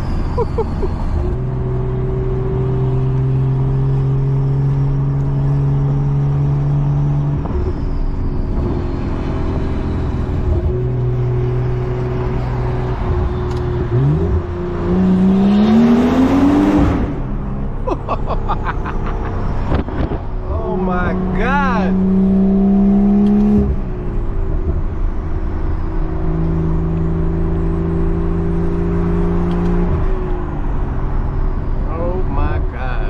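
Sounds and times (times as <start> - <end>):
car engine droning and revving: 0.0 - 33.0.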